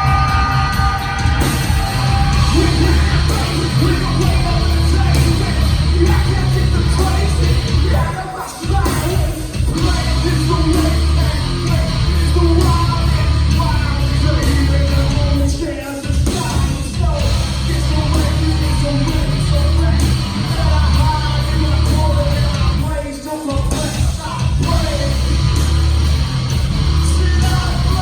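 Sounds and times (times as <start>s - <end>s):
person singing and shouting: 0.0s - 25.7s, 26.9s - 28.0s
live rock band playing: 0.0s - 28.0s.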